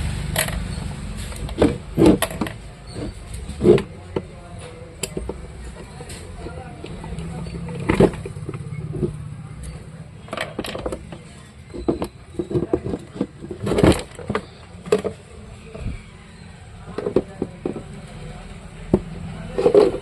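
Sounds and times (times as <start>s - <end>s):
irregular clicks and knocks: 0.3s - 15.2s, 16.9s - 18.1s.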